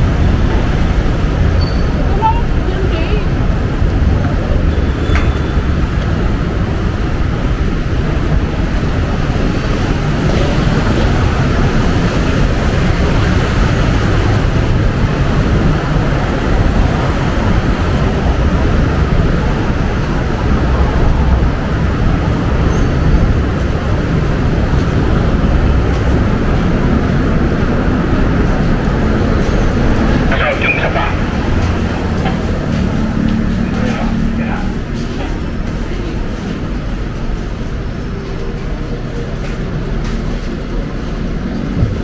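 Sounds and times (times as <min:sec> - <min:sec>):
heavy road traffic rumble: 0:00.0 - 0:42.0.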